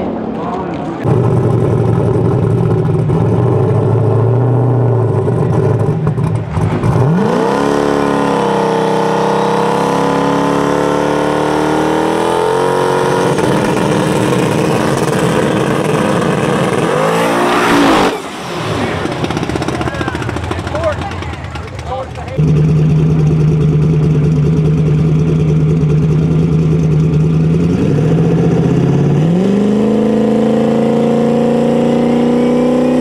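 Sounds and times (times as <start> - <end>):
car engine rumbling and revving: 0.0 - 33.0.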